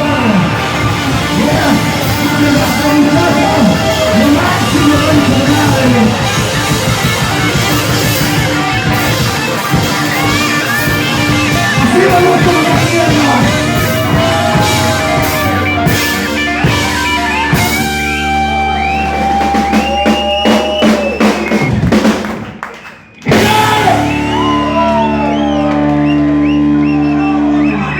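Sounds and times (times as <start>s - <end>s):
electric guitars: 0.0s - 22.5s, 23.2s - 27.9s
drum kit: 0.0s - 27.4s.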